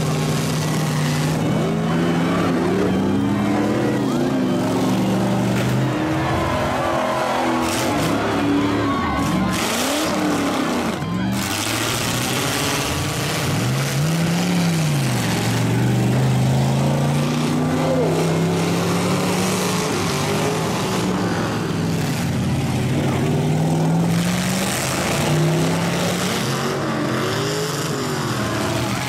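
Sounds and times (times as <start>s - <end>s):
truck engines running and revving: 0.0s - 29.0s.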